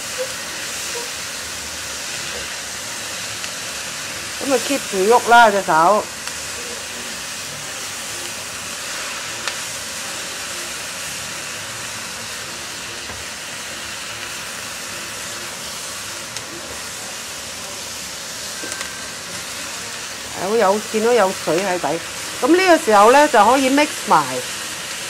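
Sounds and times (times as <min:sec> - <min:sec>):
vegetables sizzling in a wok: 0:00.0 - 0:25.0.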